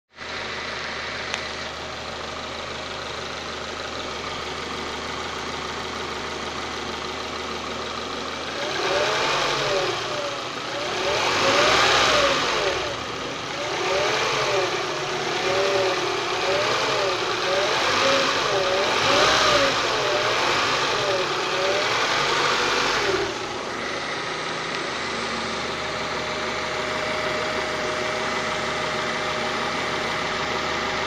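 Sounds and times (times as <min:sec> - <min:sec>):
car engine grinding: 0:00.2 - 0:31.0.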